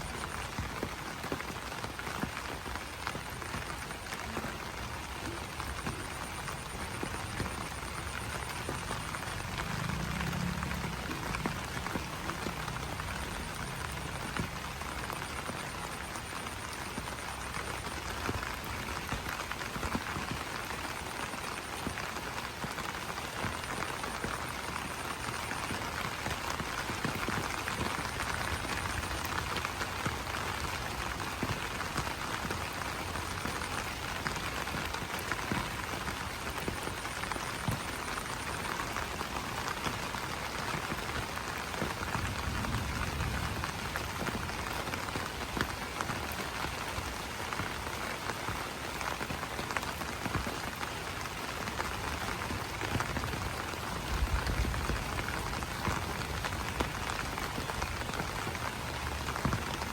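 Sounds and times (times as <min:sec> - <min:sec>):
rain pattering on leaves: 0:00.0 - 0:59.9.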